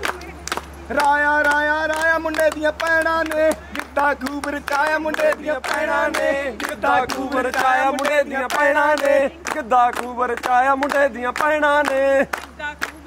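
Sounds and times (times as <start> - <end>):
handclaps: 0.0 - 13.0
voices singing together: 0.9 - 13.0.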